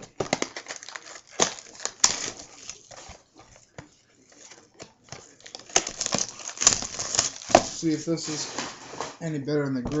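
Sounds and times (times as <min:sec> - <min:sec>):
packaging crinkling and scraping: 0:00.0 - 0:09.4.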